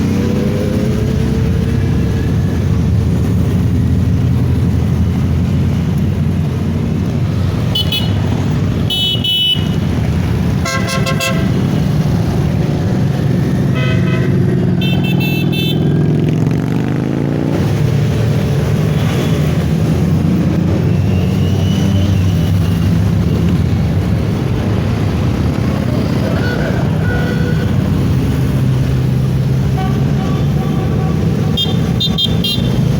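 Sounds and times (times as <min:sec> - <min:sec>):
motorcycle engines running: 0:00.0 - 0:32.9.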